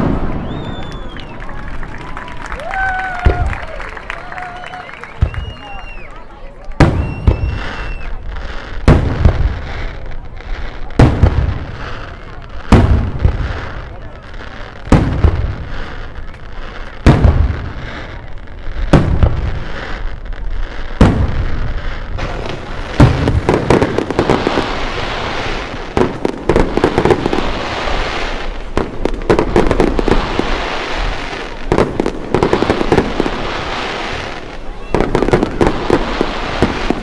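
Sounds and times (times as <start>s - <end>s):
rapid firework bangs and crackles: 0.0s - 37.0s.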